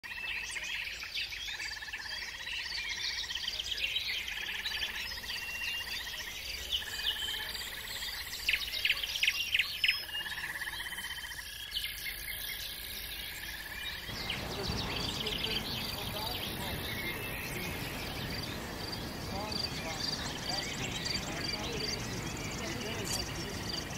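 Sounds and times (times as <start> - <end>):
songbirds chirping and trilling: 0.0 - 23.9.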